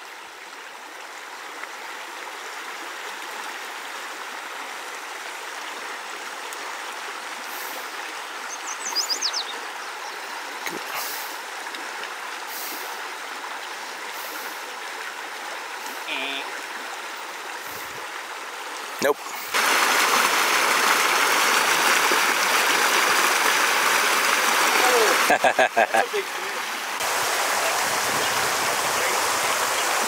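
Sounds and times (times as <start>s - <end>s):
creek water rushing over riffle: 0.0s - 30.0s.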